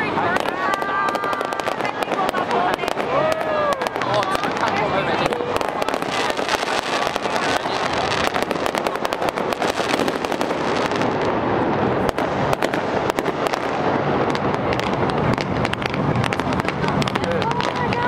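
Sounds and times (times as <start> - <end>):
fireworks crackling and banging: 0.0 - 18.0.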